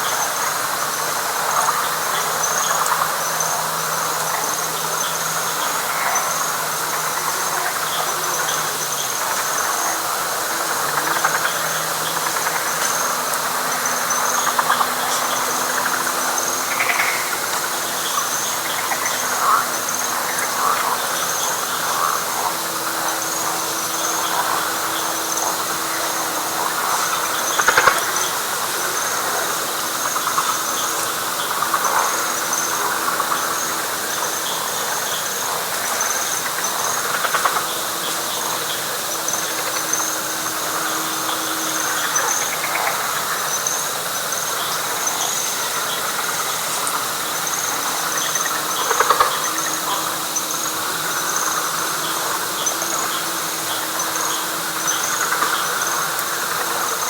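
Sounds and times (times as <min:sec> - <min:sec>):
frogs and insects chorus: 0:00.0 - 0:57.0
loud frog calls: 0:00.0 - 0:57.0
low steady drone: 0:00.0 - 0:57.0
pulsing insect trills: 0:00.0 - 0:57.0.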